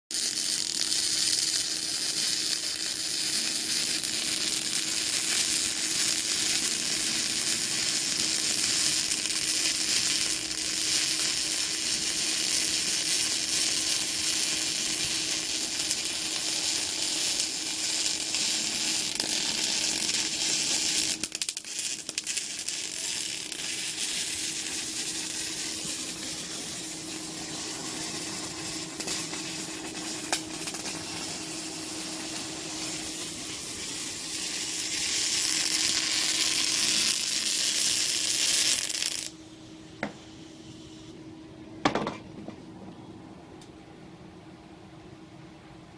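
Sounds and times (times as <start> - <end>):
arc welding crackle and sizzle: 0.1 - 39.4
steady hum: 2.5 - 45.9.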